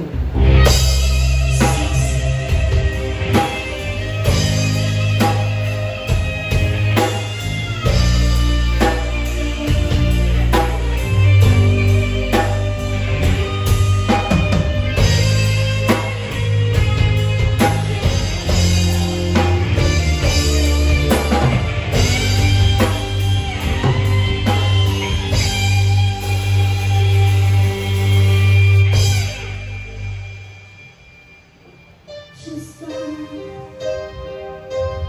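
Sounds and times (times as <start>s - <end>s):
heavy bass line: 0.0s - 31.6s
drum kit: 0.0s - 32.1s
electric guitar: 0.0s - 35.0s.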